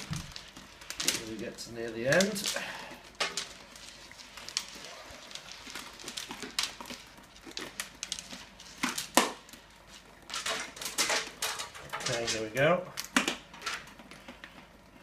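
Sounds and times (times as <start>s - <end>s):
plastic bottle crinkling: 0.0s - 15.0s.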